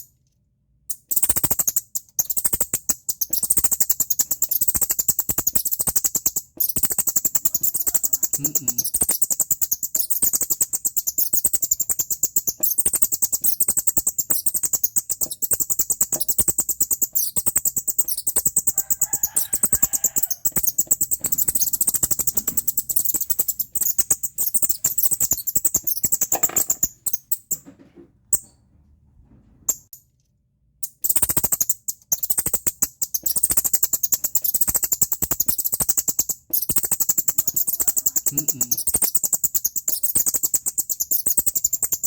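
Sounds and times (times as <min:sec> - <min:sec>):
shrill chirps: 0:00.9 - 0:27.7, 0:30.8 - 0:42.0.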